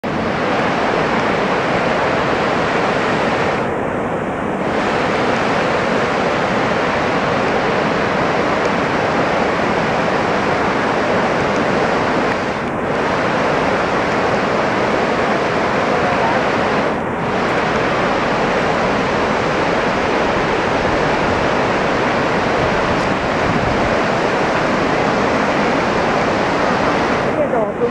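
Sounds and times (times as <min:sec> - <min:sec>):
river rushing over rocks: 0:00.0 - 0:27.9.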